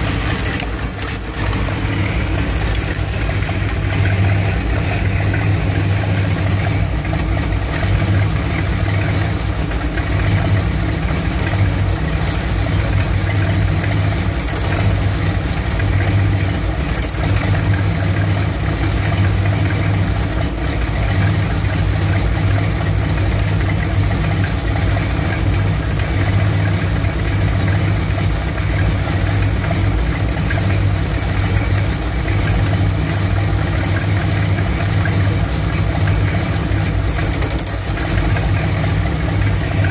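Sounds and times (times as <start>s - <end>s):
van engine idling roughly: 0.0s - 39.9s.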